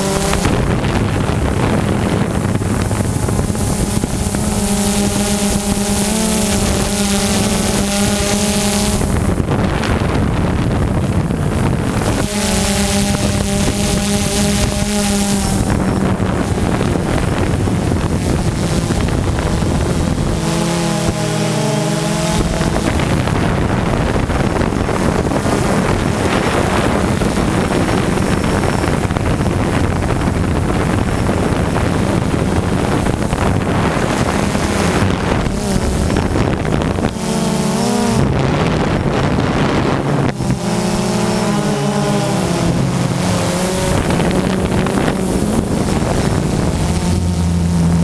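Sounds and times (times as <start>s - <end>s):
drone propellers buzzing: 0.0s - 48.0s
wind rushing over microphone: 0.0s - 48.0s.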